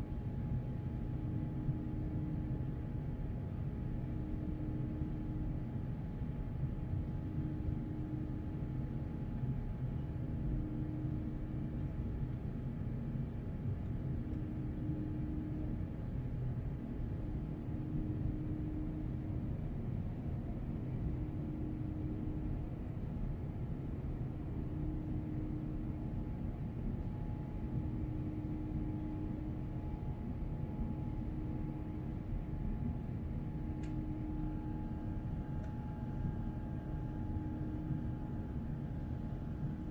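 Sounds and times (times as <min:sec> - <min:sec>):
airliner engines droning: 0:00.0 - 0:39.9
constant low hum: 0:00.0 - 0:39.9.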